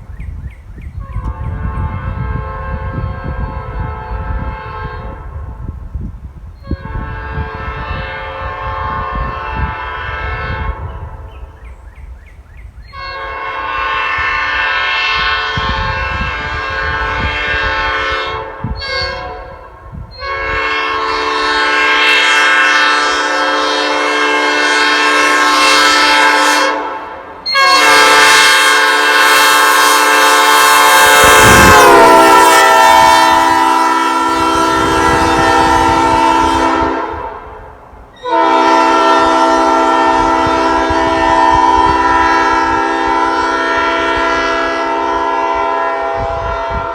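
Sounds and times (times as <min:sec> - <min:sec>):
train horn blasts: 0:01.0 - 0:05.8, 0:06.6 - 0:11.5, 0:12.9 - 0:46.9.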